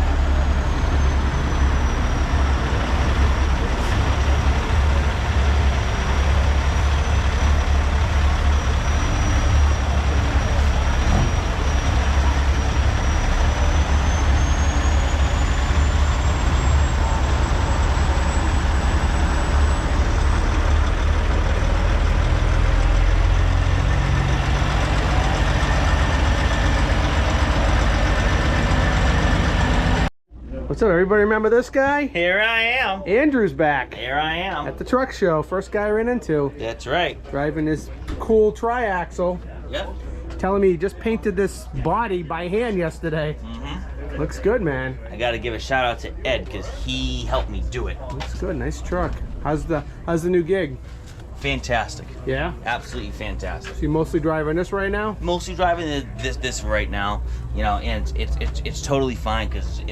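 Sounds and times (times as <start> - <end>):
truck engine rumbling: 0.0 - 32.0, 32.6 - 59.9.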